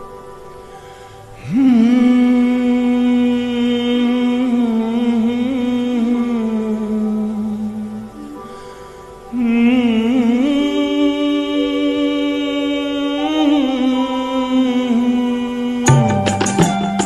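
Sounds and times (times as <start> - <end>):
melody of long held notes: 0.0 - 17.0.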